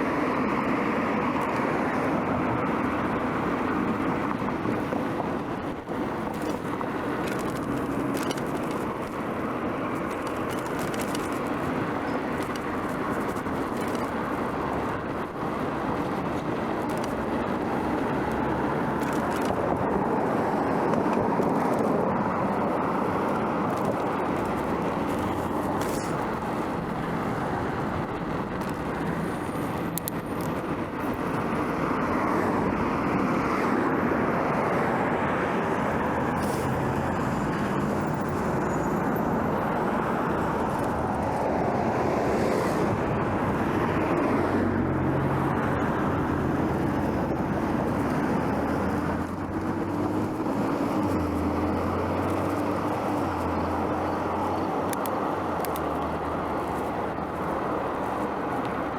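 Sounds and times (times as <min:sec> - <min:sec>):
road traffic noise: 0:00.0 - 0:58.9
vehicle engine humming: 0:00.0 - 0:58.9.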